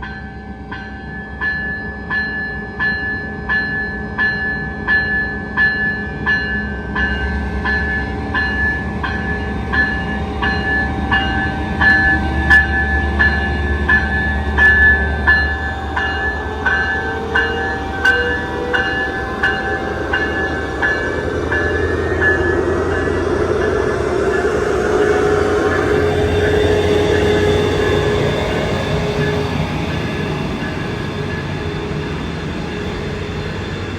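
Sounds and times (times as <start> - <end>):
crossing bell ringing: 0.0 - 33.9
train rumbling past: 0.0 - 33.9.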